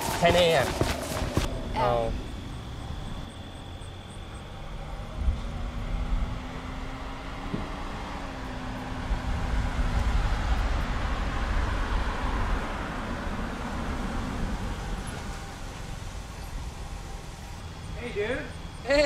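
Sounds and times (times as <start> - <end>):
small car driving: 1.4 - 19.0.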